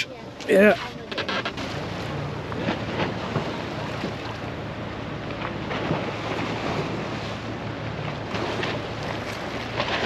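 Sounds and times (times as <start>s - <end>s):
low engine hum: 0.0s - 10.0s
water splashing against hull: 0.0s - 10.0s.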